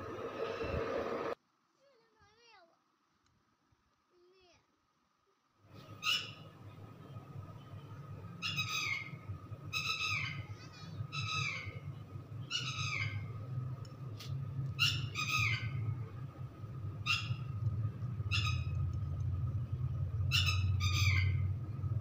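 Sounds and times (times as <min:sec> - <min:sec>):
steady low hum: 0:00.0 - 0:01.4, 0:05.7 - 0:22.0.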